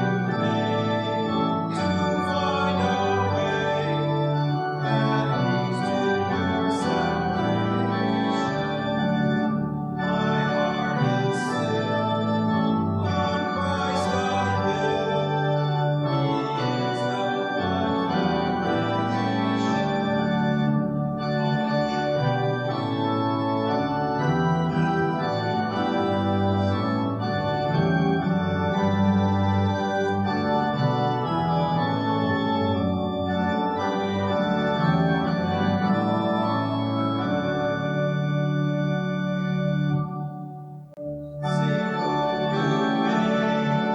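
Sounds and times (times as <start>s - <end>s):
church organ chords: 0.0s - 43.9s.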